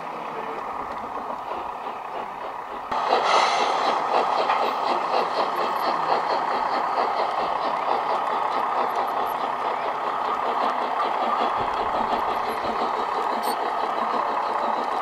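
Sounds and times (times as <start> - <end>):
model train rolling rumble: 0.0 - 15.0.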